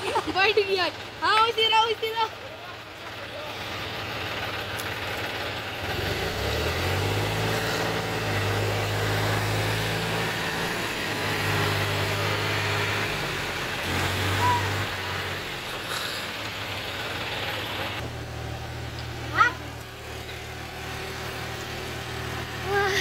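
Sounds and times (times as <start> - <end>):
tractor engine revving: 0.0 - 23.0.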